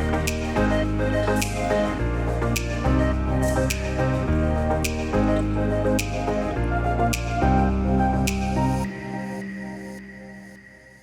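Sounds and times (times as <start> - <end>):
mellow new age music: 0.0 - 11.0.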